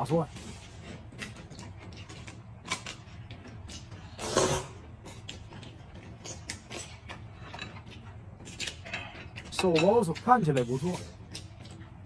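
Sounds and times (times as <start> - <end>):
chewing crunches and mouth clicks: 0.8 - 12.0.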